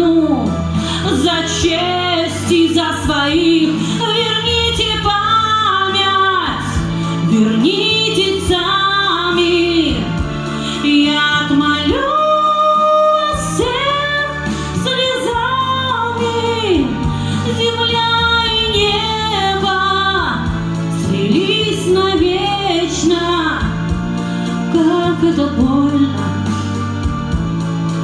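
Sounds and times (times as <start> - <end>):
woman singing with vibrato: 0.0 - 27.4
instrumental backing track: 0.0 - 28.0.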